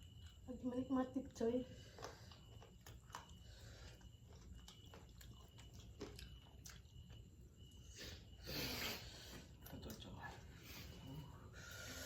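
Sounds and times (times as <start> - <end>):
person chewing and crunching: 0.0 - 0.5, 1.7 - 11.3.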